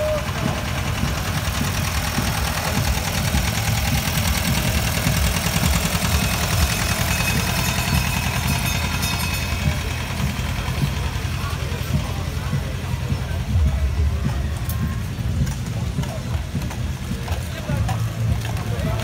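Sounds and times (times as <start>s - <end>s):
old tractor engine chugging: 0.0s - 19.0s.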